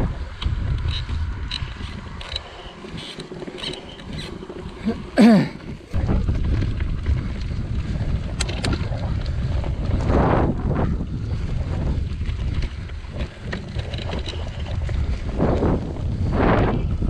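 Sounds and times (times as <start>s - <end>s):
bike tyres rolling on grass: 0.0s - 17.0s
wind on microphone: 0.0s - 17.0s.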